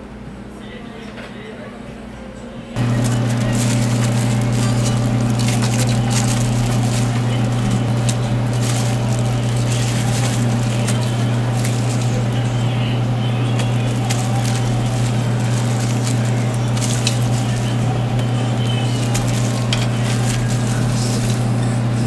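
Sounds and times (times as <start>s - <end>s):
steady low hum: 2.8s - 22.0s.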